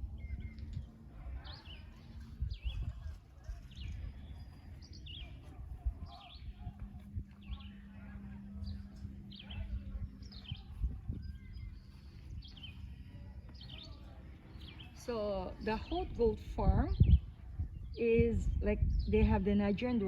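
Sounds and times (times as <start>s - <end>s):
low wind rumble: 0.0s - 20.0s
small birds chirping: 0.0s - 20.0s.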